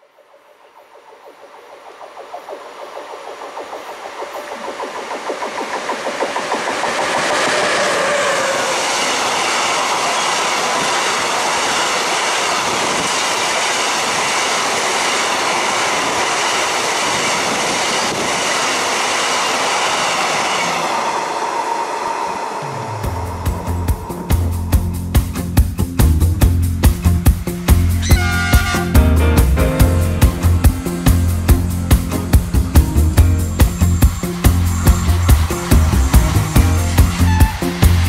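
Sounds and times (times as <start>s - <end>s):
freight train wheels on rails: 0.0s - 38.0s.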